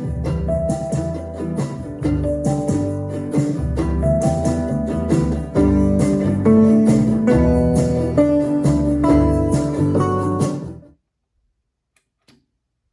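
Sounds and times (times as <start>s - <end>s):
guitar-led instrumental music: 0.0s - 10.9s.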